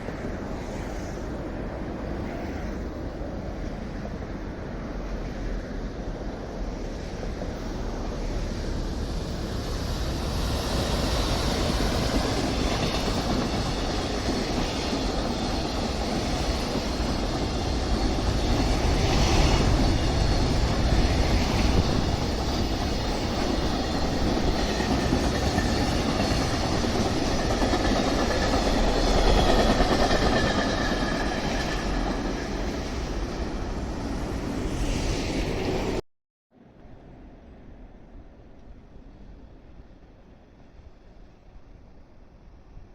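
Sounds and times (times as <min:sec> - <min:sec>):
train wheels on rails: 0:00.0 - 0:36.0.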